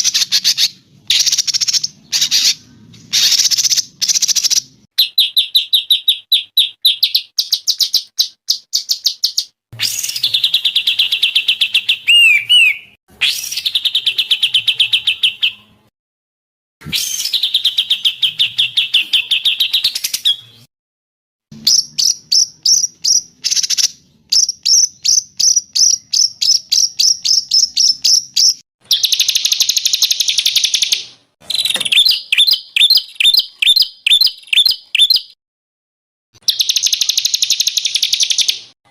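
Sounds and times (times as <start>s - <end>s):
songbirds singing rapid trills: 0.0s - 15.6s, 21.6s - 35.4s, 36.4s - 38.8s.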